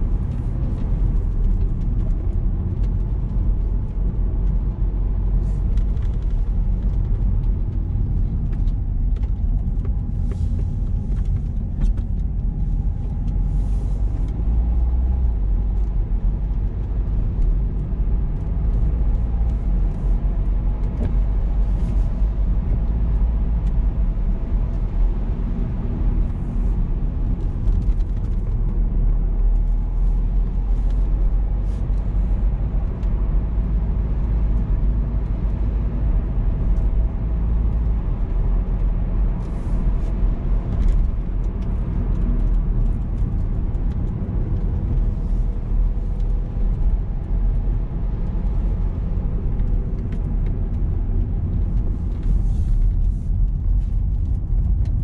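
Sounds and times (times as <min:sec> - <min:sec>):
car engine and tyre rumble: 0:00.0 - 0:55.0
faint light ticks and clicks: 0:00.2 - 0:55.0.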